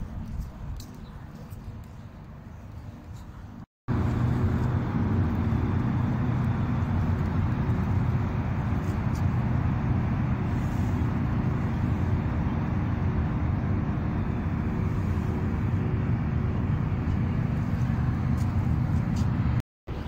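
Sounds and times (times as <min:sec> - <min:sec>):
constant hum: 0:00.0 - 0:20.0
low engine rumble: 0:00.0 - 0:20.0.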